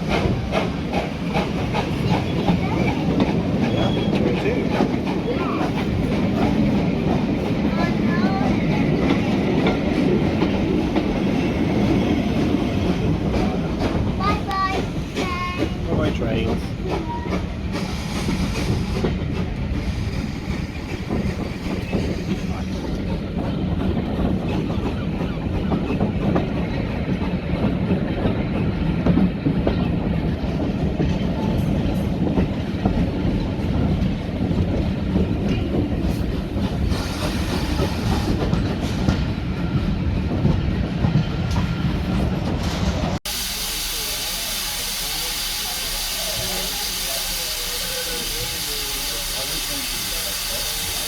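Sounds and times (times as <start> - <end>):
train carriage rumbling: 0.0 - 51.0.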